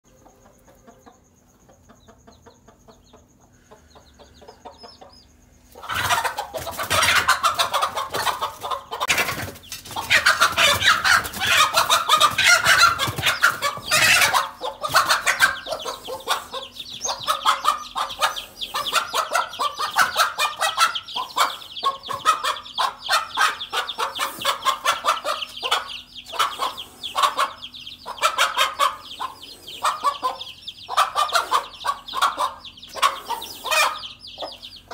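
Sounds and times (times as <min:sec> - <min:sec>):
chicks peeping: 0:00.1 - 0:34.9
hen clucking and cackling: 0:00.1 - 0:34.9.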